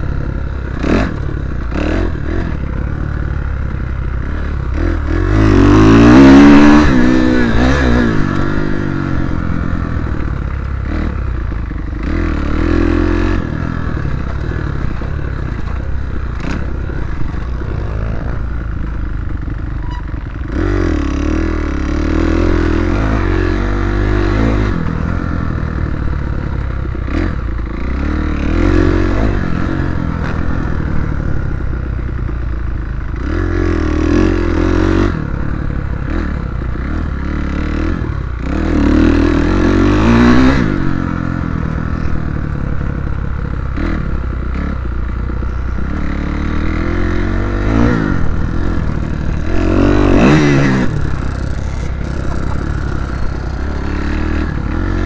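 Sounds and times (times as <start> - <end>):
motocross bike engine revving: 0.0 - 32.3, 33.0 - 55.0.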